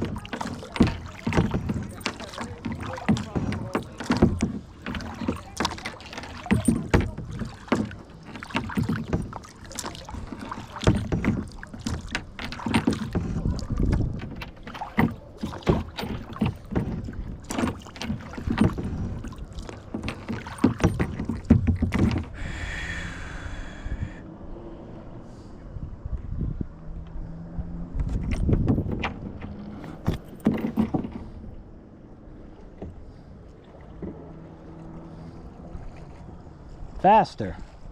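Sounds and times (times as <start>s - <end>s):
paddle splashes and knocks: 0.0s - 22.6s, 27.4s - 37.9s.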